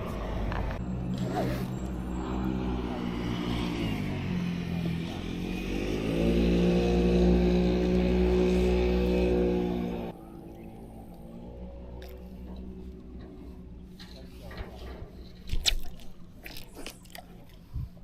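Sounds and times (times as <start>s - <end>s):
vehicle engine running: 0.0s - 15.3s.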